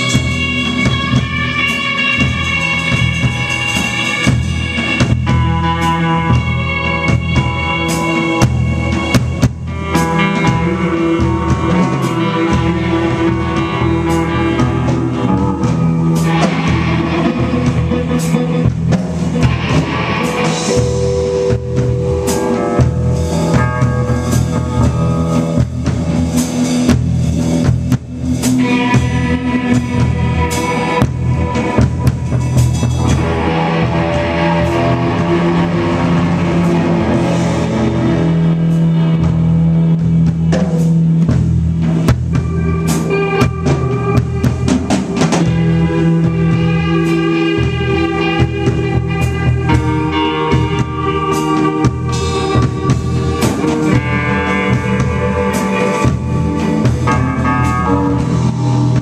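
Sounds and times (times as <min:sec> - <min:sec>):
drum kit beating: 0:00.0 - 0:59.0
rock band playing: 0:00.0 - 0:59.0.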